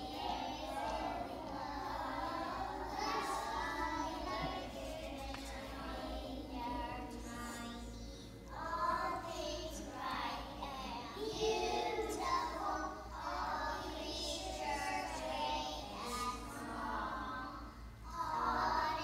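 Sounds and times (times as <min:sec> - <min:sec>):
children singing: 0:00.0 - 0:19.0.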